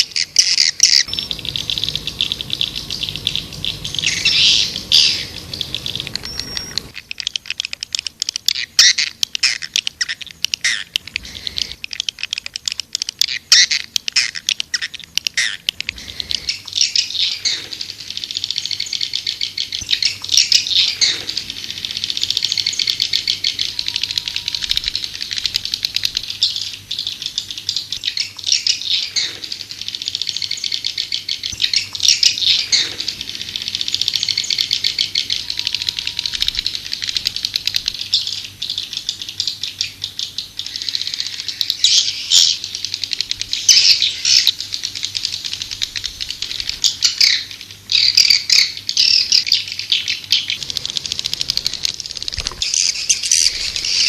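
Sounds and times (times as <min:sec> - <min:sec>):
swiftlets chittering twitter: 0:00.0 - 0:54.0.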